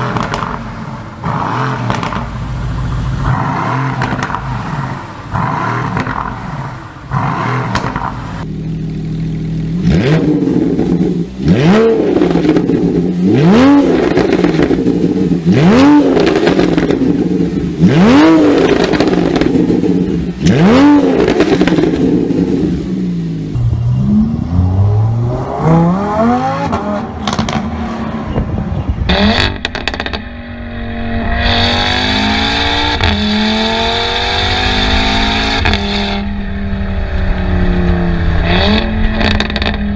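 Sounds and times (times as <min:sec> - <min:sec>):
exhaust crackles and pops: 0:00.0 - 0:23.8, 0:26.6 - 0:27.8, 0:28.4 - 0:30.4, 0:34.2 - 0:39.9
car accelerating: 0:00.0 - 0:39.9
sports car engine revving: 0:00.0 - 0:39.9.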